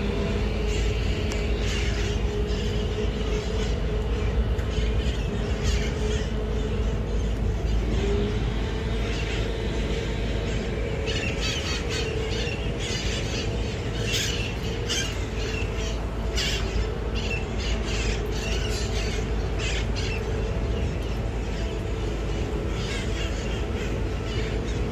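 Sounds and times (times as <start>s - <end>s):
steady low rumble: 0.0s - 24.9s
parakeets screeching squawks: 0.2s - 24.9s.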